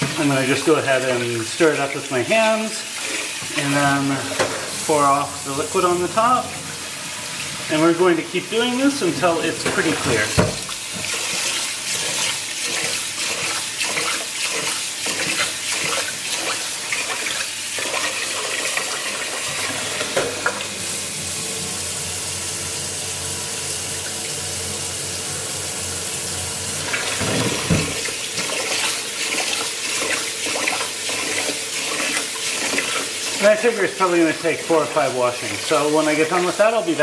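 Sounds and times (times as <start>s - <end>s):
tap water running into pot: 0.0s - 37.0s.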